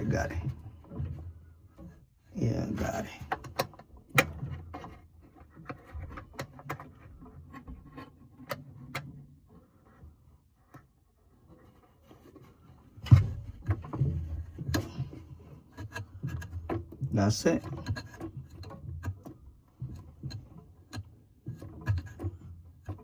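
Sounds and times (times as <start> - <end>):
knocks and handling noise: 0.0 - 23.0.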